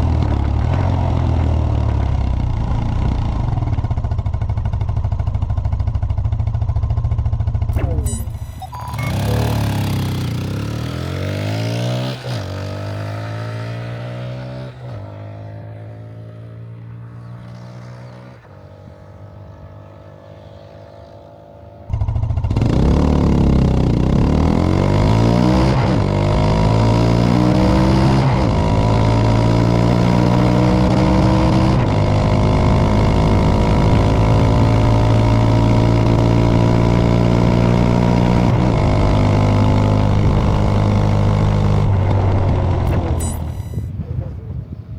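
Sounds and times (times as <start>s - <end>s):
motorcycle engine shifting gears: 0.0s - 44.0s.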